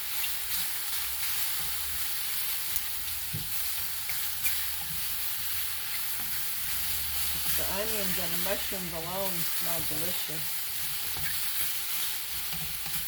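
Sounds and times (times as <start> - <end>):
mushrooms and onions sizzling in oil: 0.0 - 13.0.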